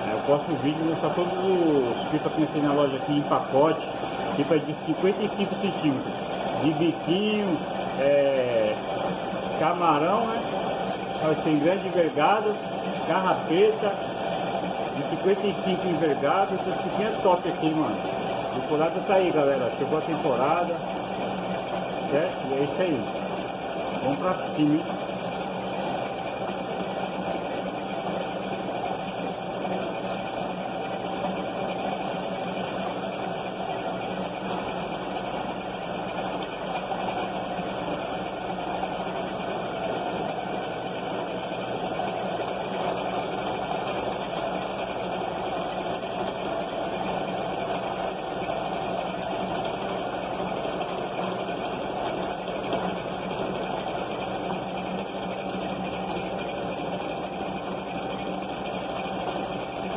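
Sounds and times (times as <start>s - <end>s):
electric motor humming: 0.0s - 59.9s.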